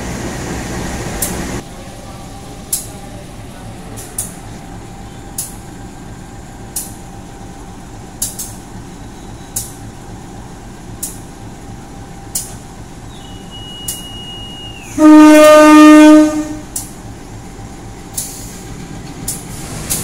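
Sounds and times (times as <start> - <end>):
locomotive idling rumble: 0.0 - 20.0.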